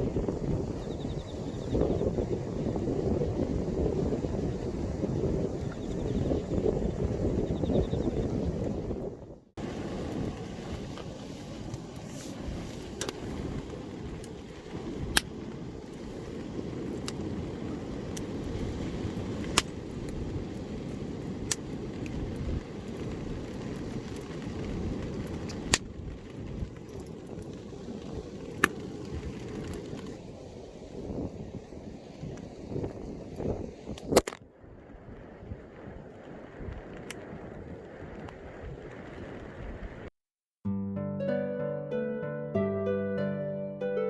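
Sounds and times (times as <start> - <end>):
strong wind buffeting: 0.0 - 40.1.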